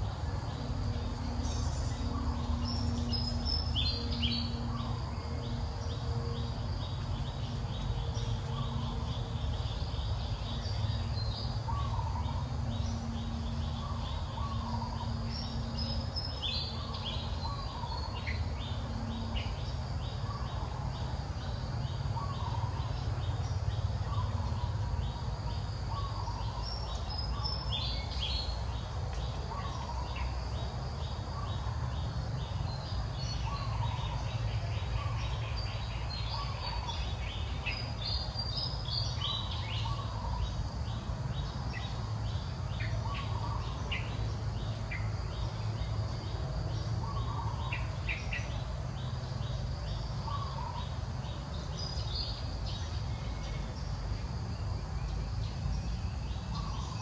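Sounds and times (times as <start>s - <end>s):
birds chirping and calling: 0.5s - 46.0s, 46.6s - 54.0s, 55.2s - 57.0s.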